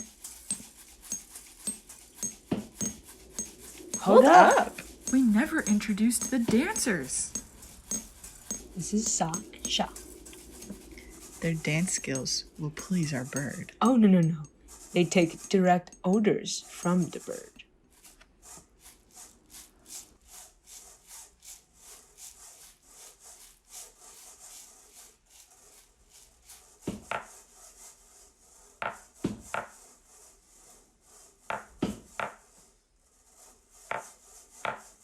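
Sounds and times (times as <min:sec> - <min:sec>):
rhythmic scraping strokes: 0:00.0 - 0:35.0.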